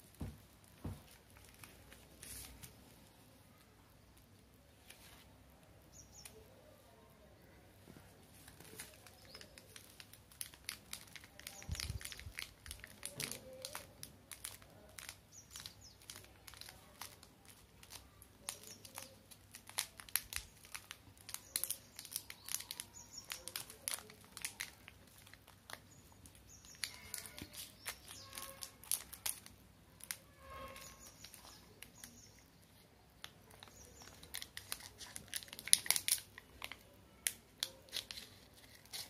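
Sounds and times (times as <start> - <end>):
plastic wrappers crinkling: 0.2 - 3.2, 8.3 - 39.0.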